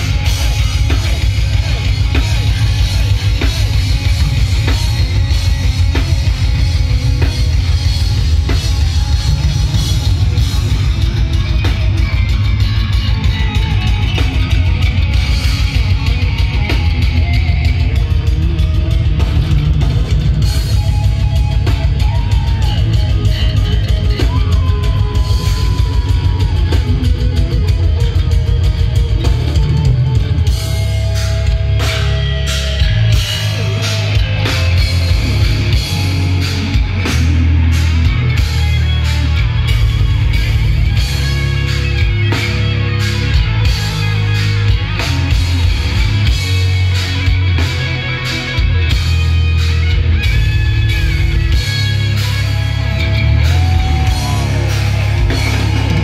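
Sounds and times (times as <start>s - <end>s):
distorted electric guitars: 0.0s - 56.0s
fast dense drumming: 0.0s - 56.0s.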